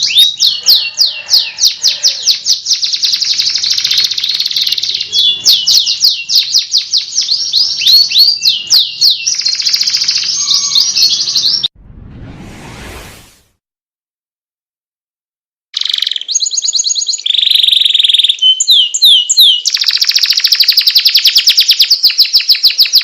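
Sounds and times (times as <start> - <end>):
canary singing trills: 0.0 - 11.7, 15.8 - 23.0.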